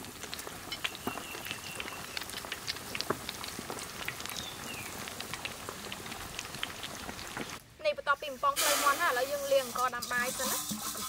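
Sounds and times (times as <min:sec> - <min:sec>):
oil crackling and sizzling: 0:00.0 - 0:11.0.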